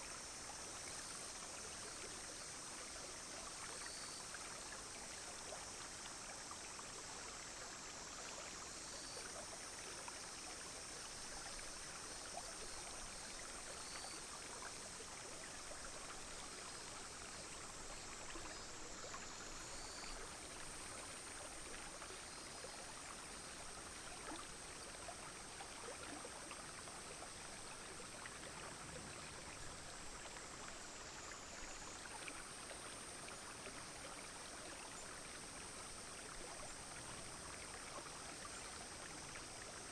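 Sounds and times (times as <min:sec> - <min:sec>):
cicadas droning: 0:00.0 - 0:39.9
stream flowing: 0:00.0 - 0:39.9.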